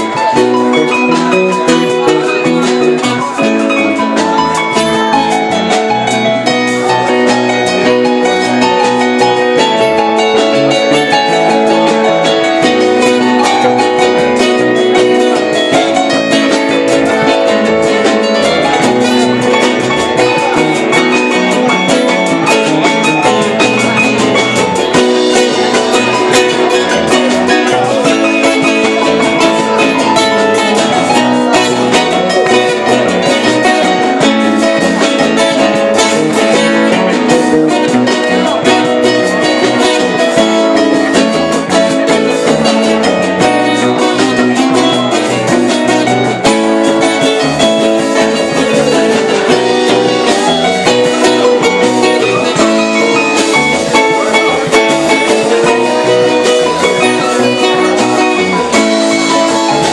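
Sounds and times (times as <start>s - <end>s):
drum kit: 0.0s - 59.9s
guitar: 0.0s - 59.9s.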